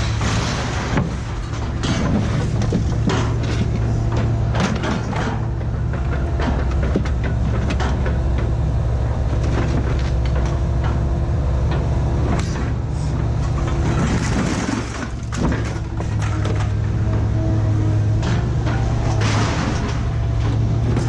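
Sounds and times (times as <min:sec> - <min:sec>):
clanks and rattles: 0:00.0 - 0:21.0.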